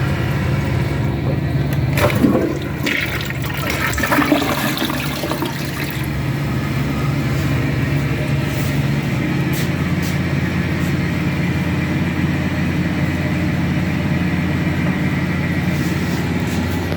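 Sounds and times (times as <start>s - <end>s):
machinery running drone: 0.0s - 16.9s.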